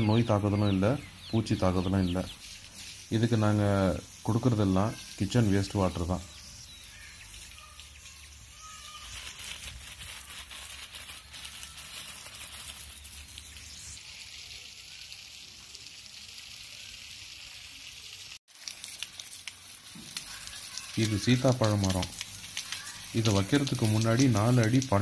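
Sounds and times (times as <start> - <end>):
hose spraying water on plants: 0.1 - 25.0.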